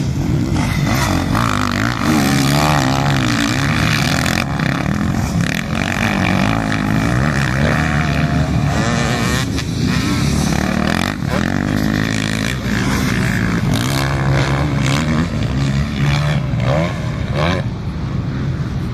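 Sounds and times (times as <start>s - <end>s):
motocross bike engine revving: 0.0s - 17.8s.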